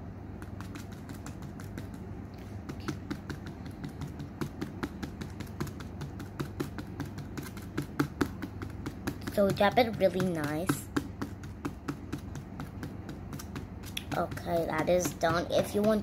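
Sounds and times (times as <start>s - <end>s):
scrubber tapping on canvas: 0.4s - 16.0s.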